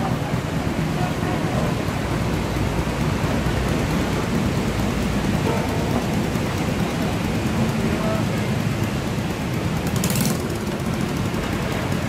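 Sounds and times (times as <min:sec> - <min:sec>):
traffic on a wet road: 0:00.0 - 0:12.0.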